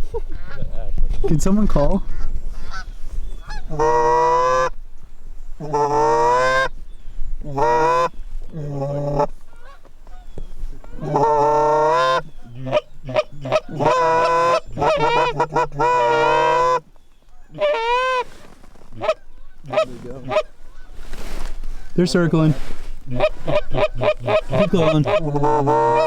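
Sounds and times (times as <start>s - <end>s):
geese clucking: 0.0s - 0.9s, 1.9s - 4.8s, 5.6s - 6.8s, 7.4s - 26.0s
geese honking: 2.1s - 4.8s, 5.6s - 6.8s, 7.4s - 26.0s.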